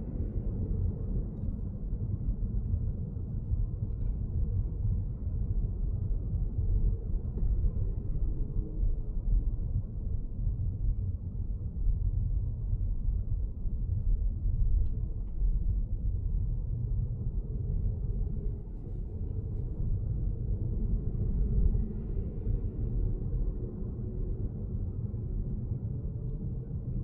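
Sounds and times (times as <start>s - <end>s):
muffled road and tyre rumble: 0.0s - 27.0s.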